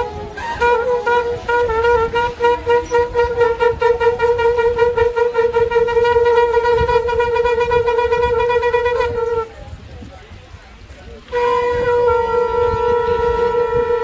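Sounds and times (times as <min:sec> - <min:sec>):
conch shells blowing: 0:00.0 - 0:09.6, 0:11.2 - 0:14.0.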